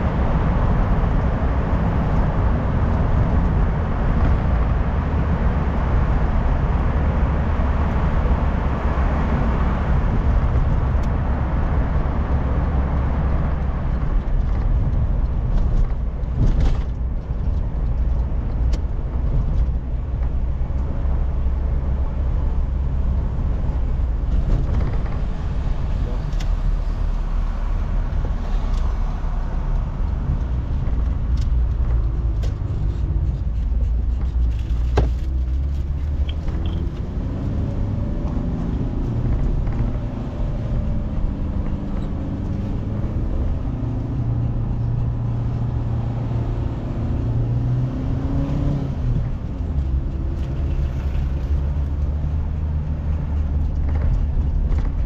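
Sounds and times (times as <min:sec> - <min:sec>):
car engine running: 0:00.0 - 0:55.0
tyre and road rumble: 0:00.0 - 0:55.0.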